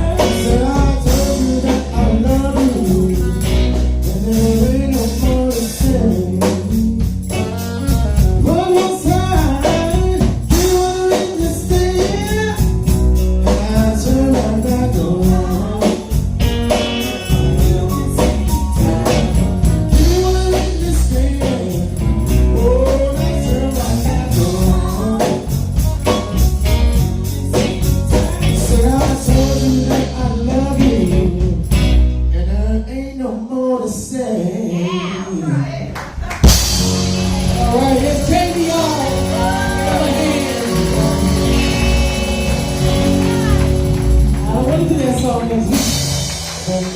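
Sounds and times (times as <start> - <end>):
person singing: 0.0 - 12.8, 13.4 - 35.9, 36.5 - 46.9
band playing: 0.0 - 32.3, 36.2 - 46.9.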